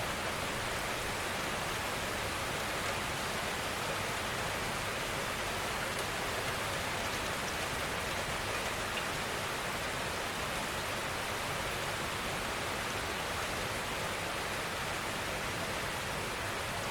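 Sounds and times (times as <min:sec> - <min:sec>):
steady rainfall: 0:00.0 - 0:16.9.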